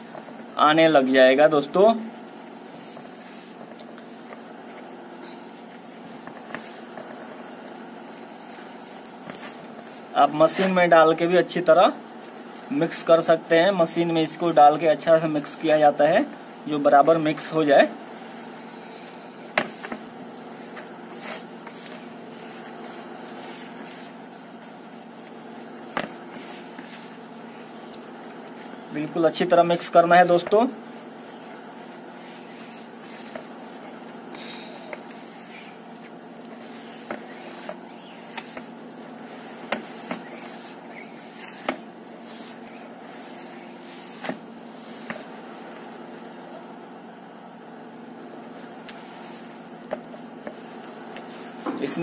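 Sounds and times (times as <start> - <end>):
hands mixing dry powder: 0.0 - 52.0
low mechanical hum: 0.0 - 52.0.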